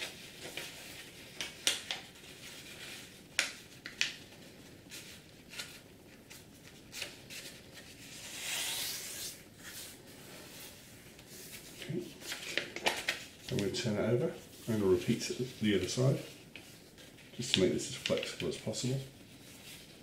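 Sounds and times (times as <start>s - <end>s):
paper crackling while folded: 0.0s - 20.0s.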